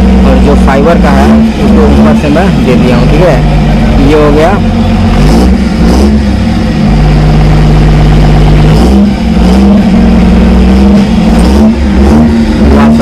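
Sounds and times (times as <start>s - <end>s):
engine running with deep hum: 0.0s - 13.0s.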